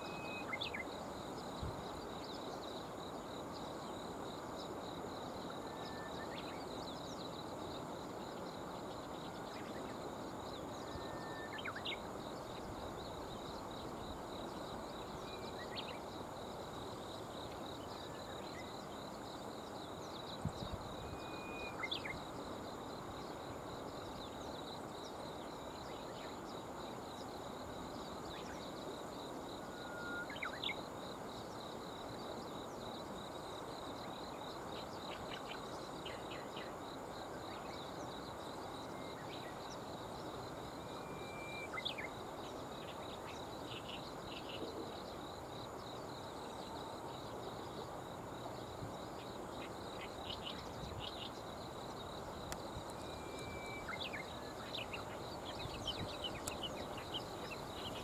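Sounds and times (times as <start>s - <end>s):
insect trill: 0.0s - 58.0s.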